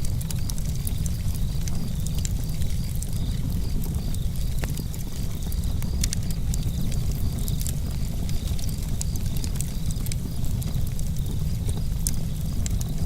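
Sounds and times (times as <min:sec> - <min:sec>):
campfire crackling: 0:00.0 - 0:13.0
crickets chirping: 0:00.0 - 0:13.0.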